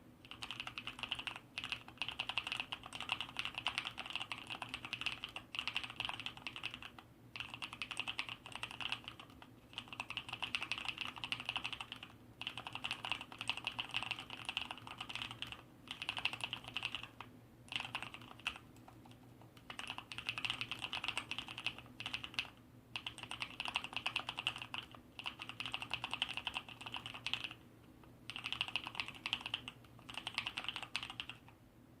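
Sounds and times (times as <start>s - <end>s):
rapid typing on mechanical keyboard: 0.2s - 27.6s, 28.3s - 31.5s.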